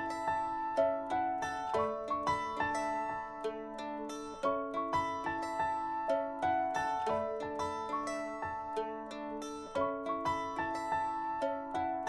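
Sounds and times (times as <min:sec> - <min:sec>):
light melody of ringing notes: 0:00.0 - 0:12.0.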